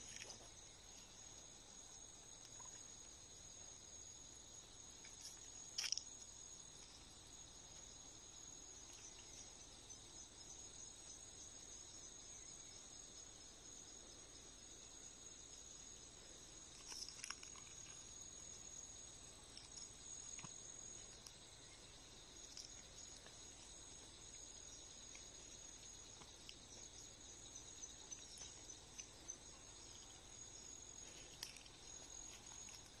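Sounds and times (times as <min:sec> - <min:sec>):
insects buzzing drone: 0:00.0 - 0:33.0
sharp insect chirps: 0:00.0 - 0:33.0.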